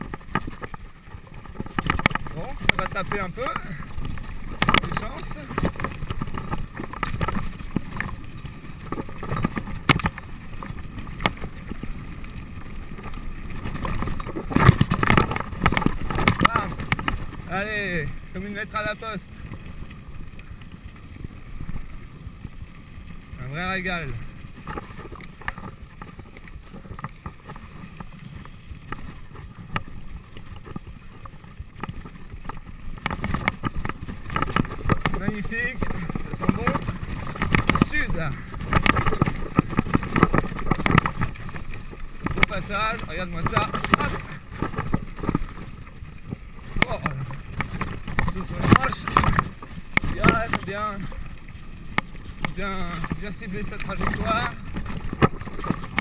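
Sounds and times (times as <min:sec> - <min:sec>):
bike rattling over bumps: 0:00.0 - 0:56.0
tyres crunching over stones: 0:00.0 - 0:56.0.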